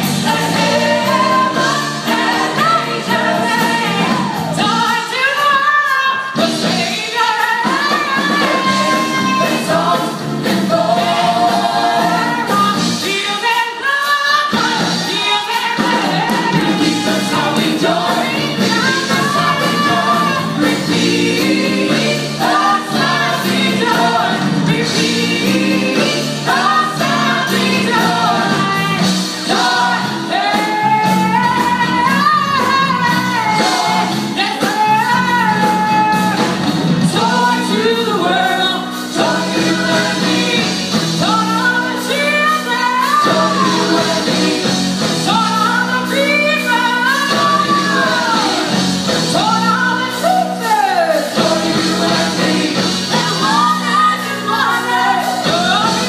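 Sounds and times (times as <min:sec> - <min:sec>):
gospel group singing: 0:00.0 - 0:56.0
piano: 0:00.0 - 0:56.0
woman singing lead: 0:00.0 - 0:56.0.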